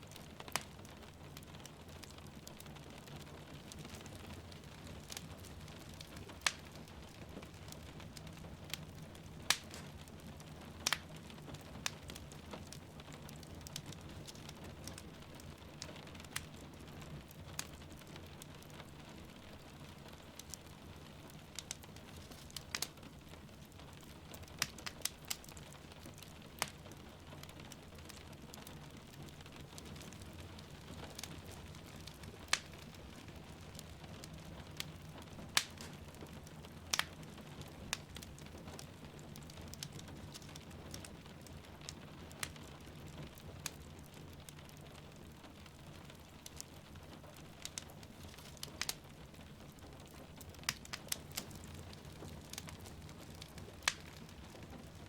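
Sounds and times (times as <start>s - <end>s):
fireplace crackling and popping: 0.0s - 55.0s.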